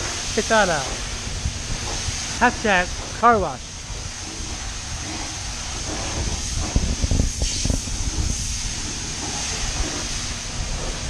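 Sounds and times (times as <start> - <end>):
pressure washer spraying water: 0.0 - 11.0.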